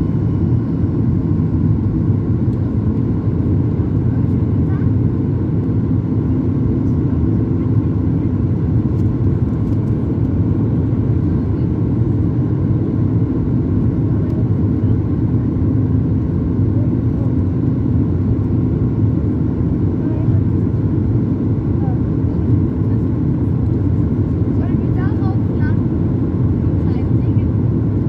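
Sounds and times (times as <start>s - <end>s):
airplane cabin rumble: 0.0s - 28.0s.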